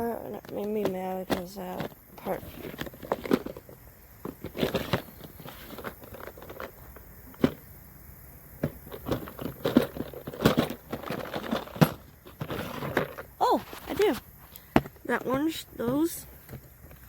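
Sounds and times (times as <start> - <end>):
fishing tackle clicking and rustling: 0.4 - 7.7, 8.6 - 15.1.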